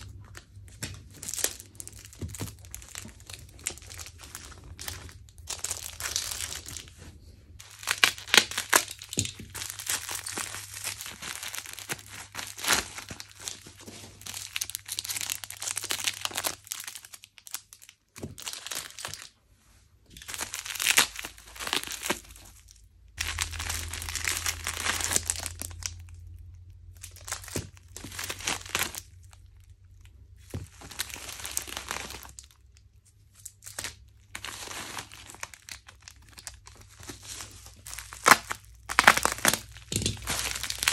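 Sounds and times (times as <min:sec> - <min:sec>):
bubble wrap crinkling: 0:00.0 - 0:19.4, 0:20.0 - 0:40.9.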